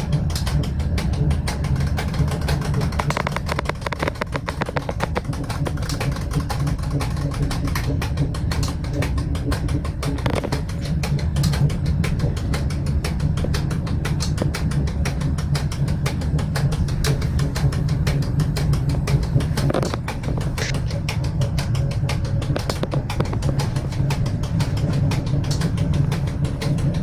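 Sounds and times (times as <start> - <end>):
fast rattling and clicking: 0.0 - 27.0
train running gear rumble: 0.0 - 27.0.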